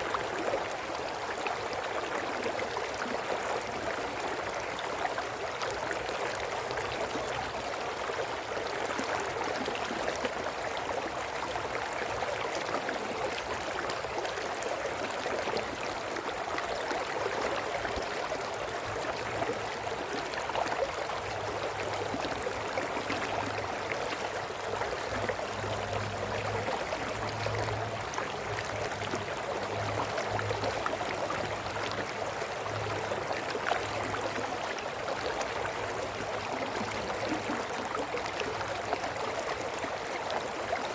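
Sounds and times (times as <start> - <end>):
brook babbling over stones: 0.0 - 40.9.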